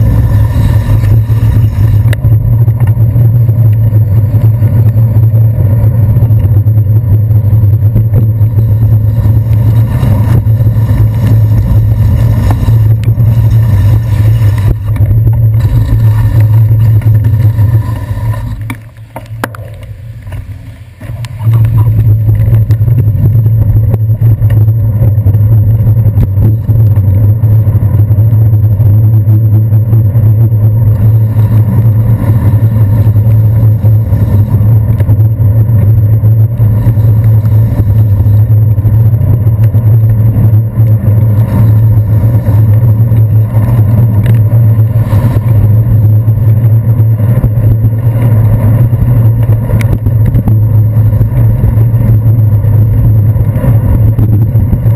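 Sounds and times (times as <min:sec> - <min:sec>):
wind and road rumble while cycling: 0:00.0 - 0:54.9.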